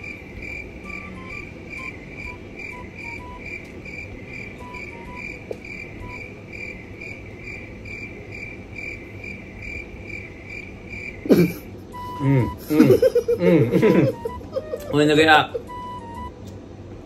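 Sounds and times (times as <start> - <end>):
cricket chirping: 0.0 - 16.3.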